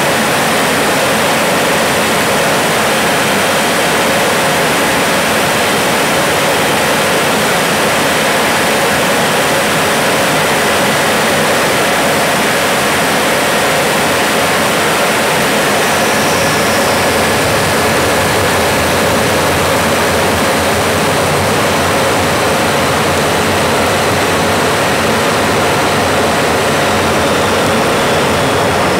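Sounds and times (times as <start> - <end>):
jet engine rushing hiss: 0.0 - 28.9
faint high whines: 0.1 - 28.9.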